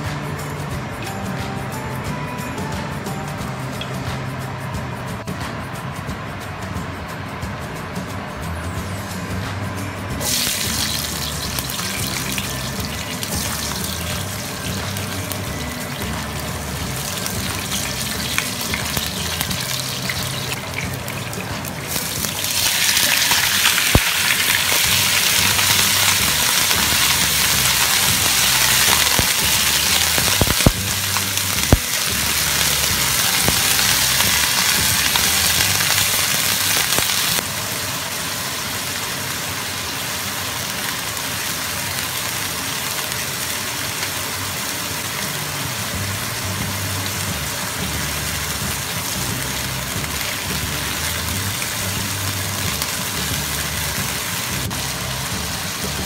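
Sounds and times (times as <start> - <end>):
chicken sizzling in hot oil: 10.2 - 56.0.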